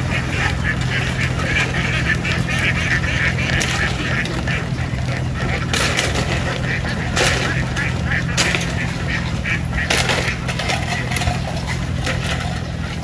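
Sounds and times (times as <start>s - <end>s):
ducks quacking: 0.0s - 13.0s
steady low hum: 0.0s - 13.0s.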